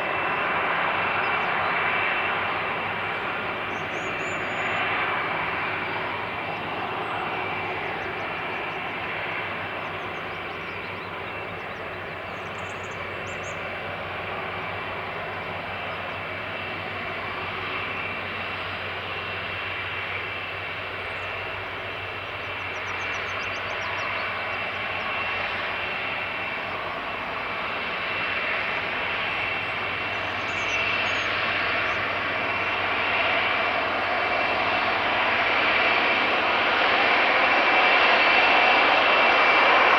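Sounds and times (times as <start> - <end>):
high steady jet whine: 0.0 - 39.9
jet engines roaring: 0.0 - 39.9.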